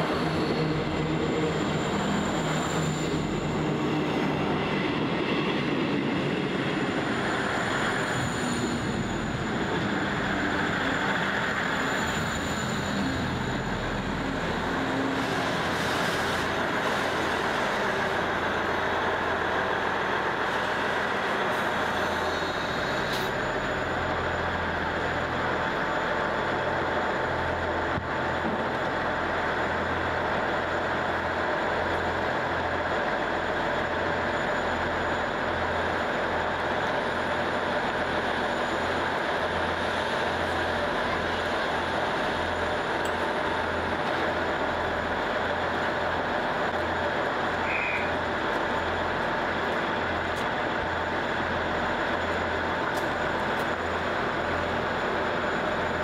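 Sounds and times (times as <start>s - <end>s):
train engine idling: 0.0s - 56.0s.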